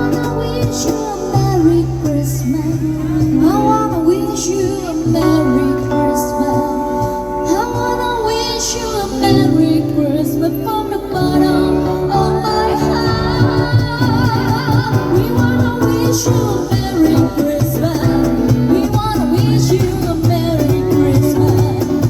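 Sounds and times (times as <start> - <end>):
amplified instrumental accompaniment: 0.0 - 22.0
woman singing with vibrato: 0.0 - 22.0.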